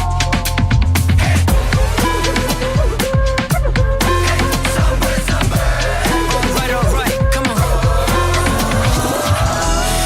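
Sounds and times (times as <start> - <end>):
pop music drum beat: 0.0 - 10.0
synth notes and bass: 0.0 - 10.0.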